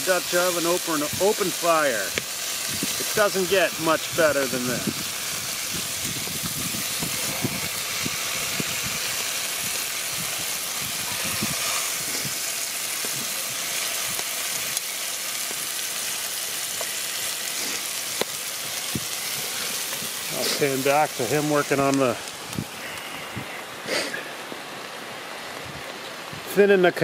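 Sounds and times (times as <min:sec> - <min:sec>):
fish sizzling in a pot: 0:00.0 - 0:27.0.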